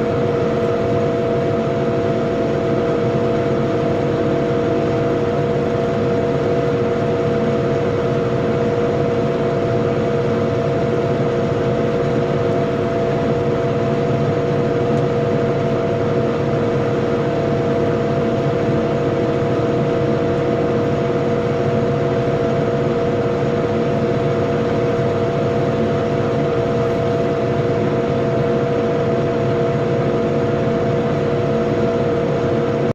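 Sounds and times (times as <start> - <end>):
steady mechanical whine: 0.0 - 32.9.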